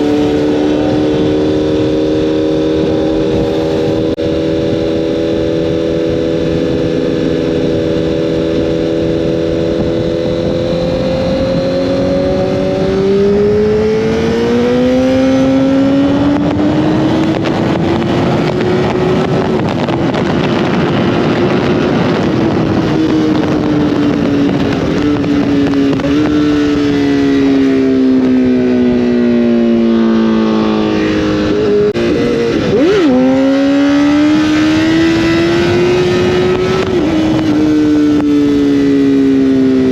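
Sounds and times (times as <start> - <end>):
motorcycle engine revving: 0.0 - 39.9
rush of wind: 0.0 - 39.9.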